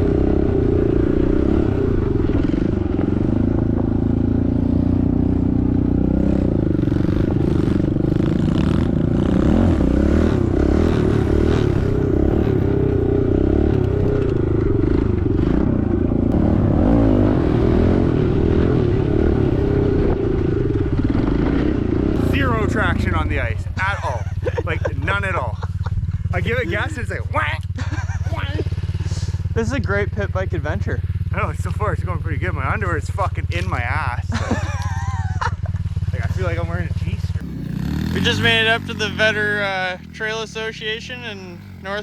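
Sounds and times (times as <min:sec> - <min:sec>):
pit bike engine revving: 0:00.0 - 0:42.0.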